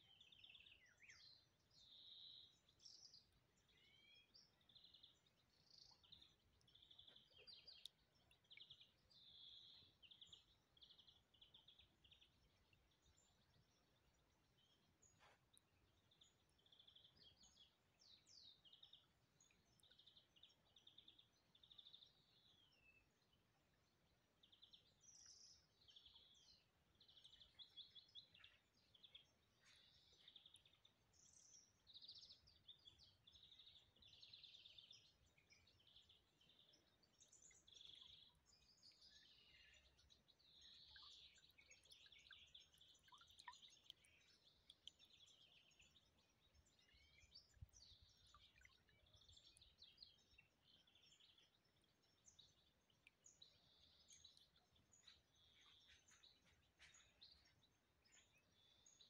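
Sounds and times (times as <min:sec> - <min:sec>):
faint birdsong chirps and trills: 0:00.0 - 0:59.0.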